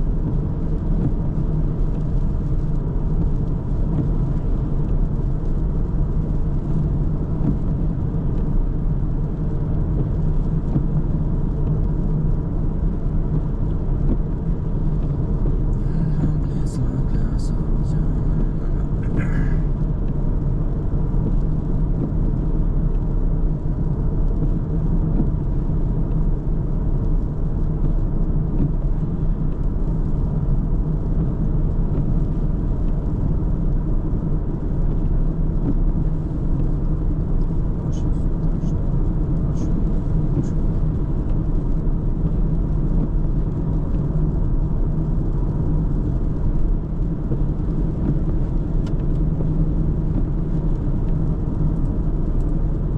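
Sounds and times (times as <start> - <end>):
car engine and tyre noise: 0.0 - 52.9.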